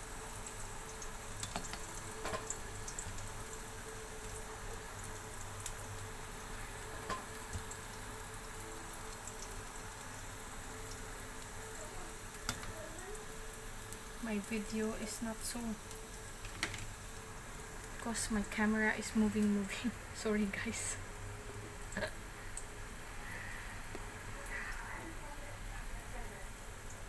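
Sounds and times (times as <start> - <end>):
garlic sizzling in hot oil: 0.0 - 27.0.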